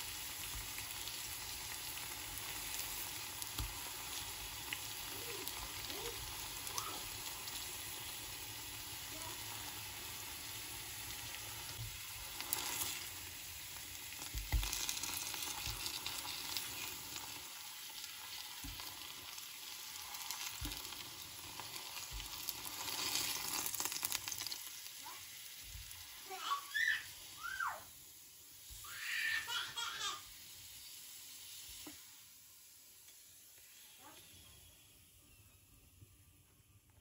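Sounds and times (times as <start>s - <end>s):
bananas sizzling in hot oil: 0.0s - 37.0s.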